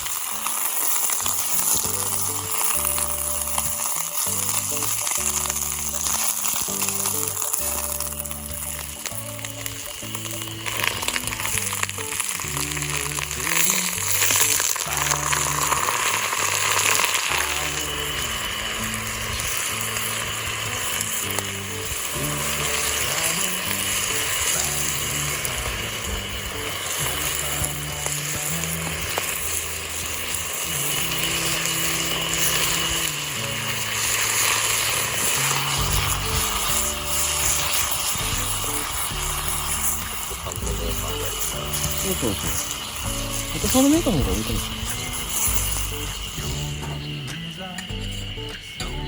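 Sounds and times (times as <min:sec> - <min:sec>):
background music: 0:00.0 - 0:49.0
food sizzling: 0:00.0 - 0:49.0
steady hiss: 0:00.0 - 0:49.0.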